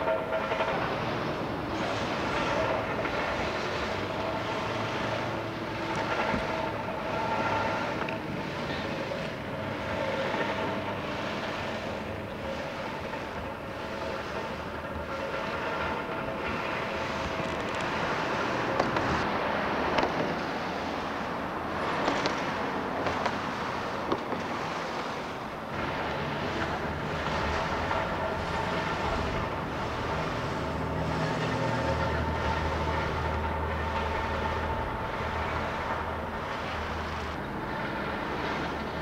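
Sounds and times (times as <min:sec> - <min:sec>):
passing cars and tyres: 0:00.0 - 0:39.0.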